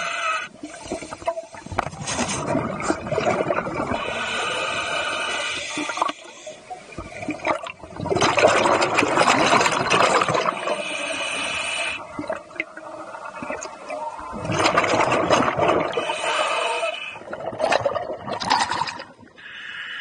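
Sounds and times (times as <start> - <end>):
gurgling exhaled bubbles: 0.0 - 19.3.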